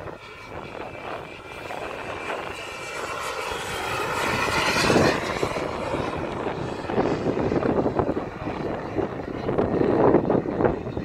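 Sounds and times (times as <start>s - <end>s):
jet engine flyby whine: 0.0s - 11.0s.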